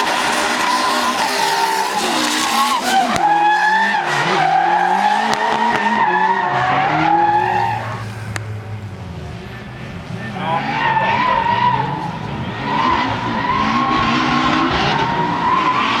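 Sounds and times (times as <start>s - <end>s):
car engine revving hard: 0.0s - 8.2s, 10.4s - 16.0s
tyres skidding and squealing: 0.0s - 16.0s.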